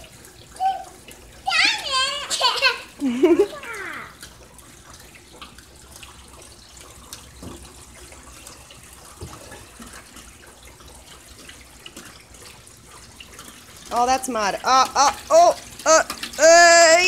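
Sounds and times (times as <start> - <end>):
water drips and splashes: 0.0 - 17.0
water trickling from downspout: 0.0 - 17.0.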